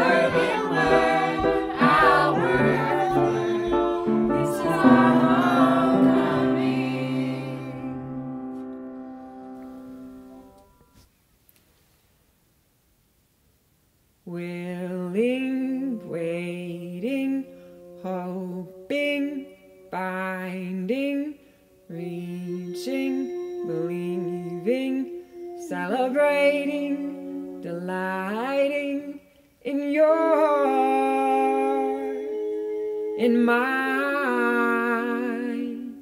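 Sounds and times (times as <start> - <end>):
wordless singing voices: 0.0 - 8.4, 14.3 - 36.0.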